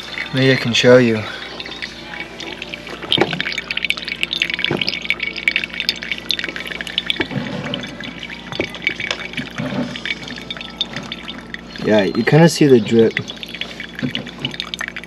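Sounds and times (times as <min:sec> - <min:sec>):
coffee dripping into a mug: 0:00.0 - 0:15.0.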